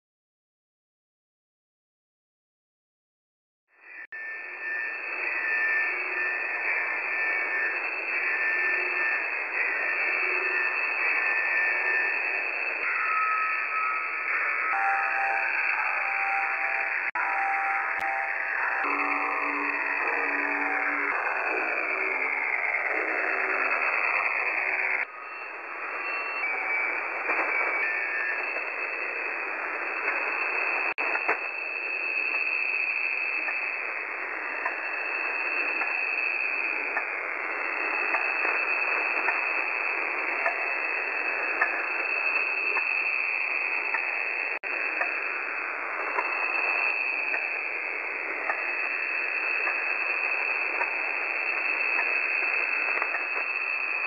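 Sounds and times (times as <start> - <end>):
faint falling radio sweeps: 3.8 - 54.0
stepped-tone radio signal: 3.8 - 54.0
radio receiver hiss: 3.9 - 17.2, 17.8 - 54.0.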